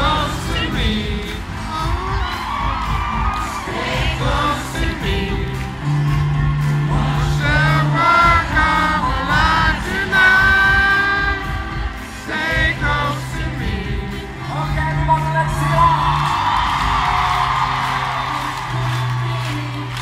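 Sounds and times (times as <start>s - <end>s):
live pop music with singing: 0.0s - 20.0s.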